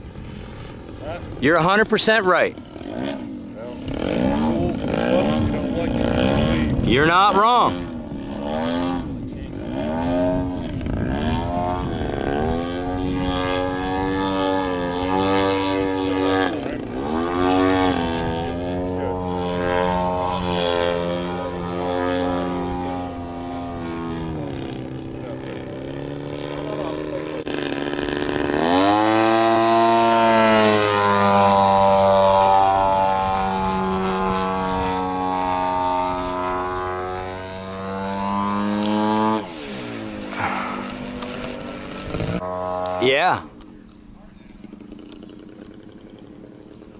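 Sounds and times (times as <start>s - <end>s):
model airplane engine and propeller: 0.0s - 46.9s.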